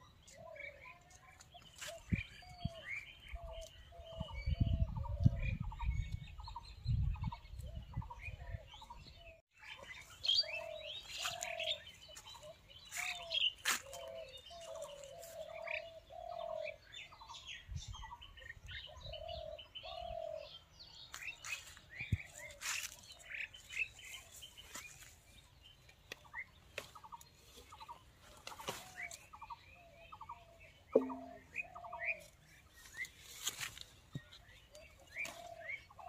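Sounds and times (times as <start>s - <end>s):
birds chirping: 0.0s - 33.3s.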